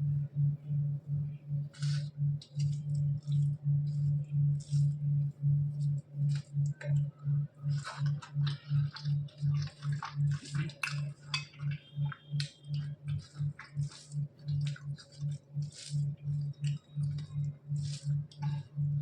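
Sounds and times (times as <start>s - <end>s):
pulsing low hum: 0.0s - 19.0s
wet chewing and smacking: 1.7s - 5.0s, 5.7s - 19.0s.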